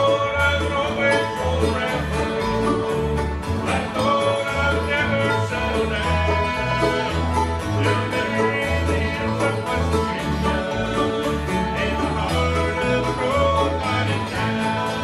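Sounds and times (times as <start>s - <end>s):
acoustic guitars and mandolin: 0.0s - 15.0s
low bass line: 0.0s - 15.0s.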